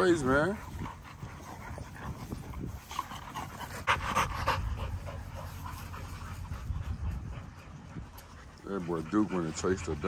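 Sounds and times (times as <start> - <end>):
dogs panting: 0.0 - 10.0.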